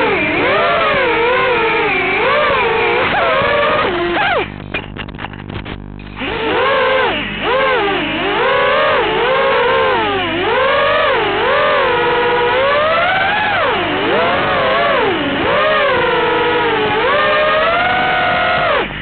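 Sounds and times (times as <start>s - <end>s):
quadcopter motors whining: 0.0s - 4.7s, 6.2s - 19.0s.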